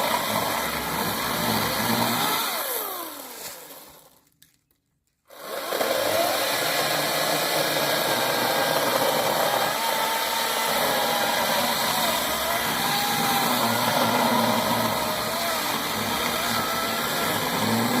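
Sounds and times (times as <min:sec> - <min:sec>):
electric chainsaw cutting: 0:00.0 - 0:04.2, 0:05.3 - 0:18.0.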